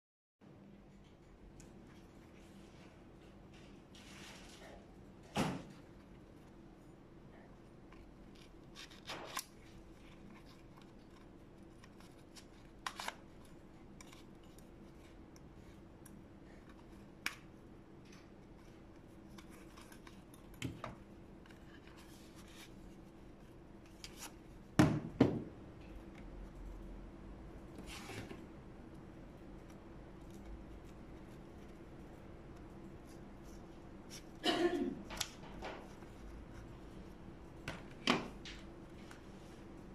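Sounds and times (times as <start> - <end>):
faint steady hum: 0.4 - 39.9.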